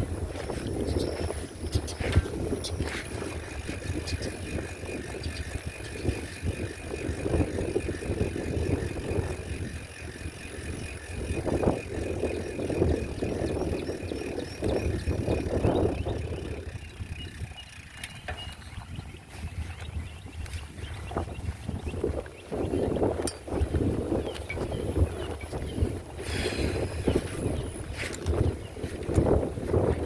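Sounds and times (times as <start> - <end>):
bicycle frame rattling: 0.0 - 30.0
bicycle tyres rumbling: 0.0 - 30.0
wind buffeting microphone: 0.0 - 30.0.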